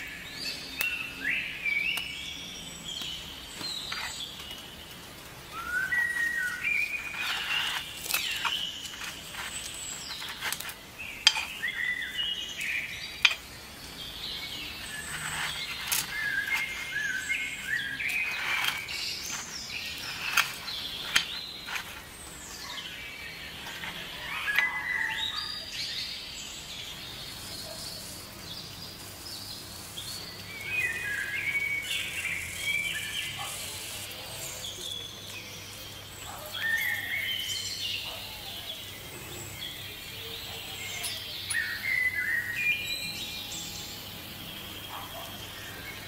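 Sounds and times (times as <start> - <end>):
birds chirping: 0.0 - 46.0
faint steady hiss: 0.0 - 46.0.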